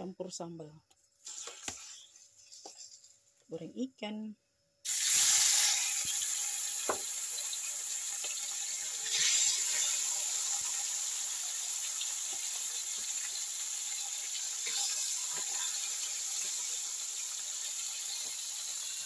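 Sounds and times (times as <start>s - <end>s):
fish sizzling in hot oil: 1.2s - 3.1s, 4.8s - 19.0s.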